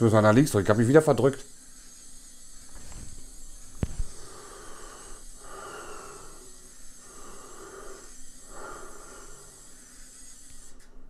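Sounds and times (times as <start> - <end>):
curtain motor whirring: 0.0 - 11.0.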